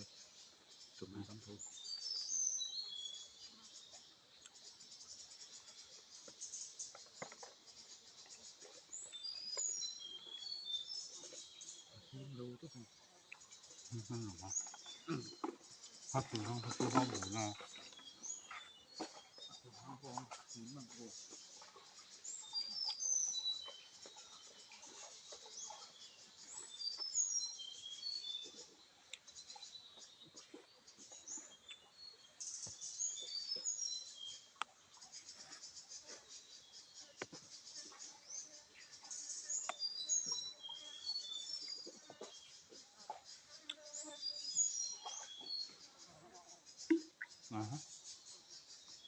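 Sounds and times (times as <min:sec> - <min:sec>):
insects chirping: 0:00.0 - 0:49.0.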